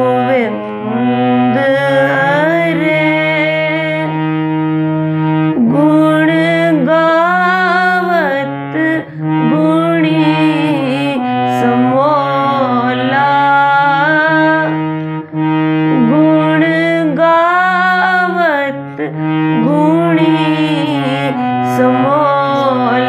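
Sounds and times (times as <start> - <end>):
woman singing: 0.0 - 4.3, 5.5 - 15.0, 15.9 - 23.0
harmonium playing: 0.0 - 23.0.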